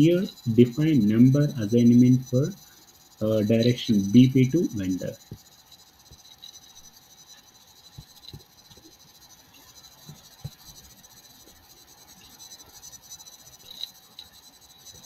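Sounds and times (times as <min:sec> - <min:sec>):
thin high whine and hiss: 0:00.0 - 0:15.0.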